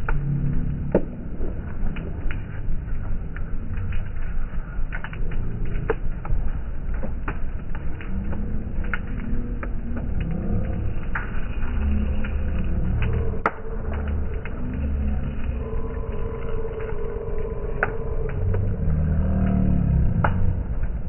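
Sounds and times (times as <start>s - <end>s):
bonfire burning: 0.0s - 21.0s
fire crackles and pops: 0.0s - 21.0s.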